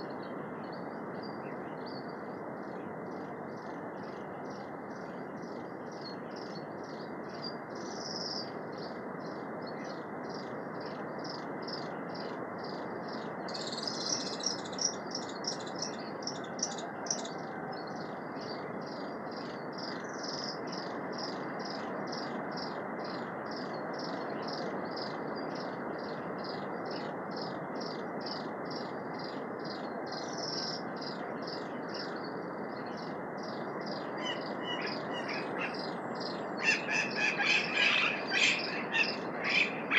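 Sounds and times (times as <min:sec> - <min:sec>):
constant rushing hiss: 0:00.0 - 0:39.9.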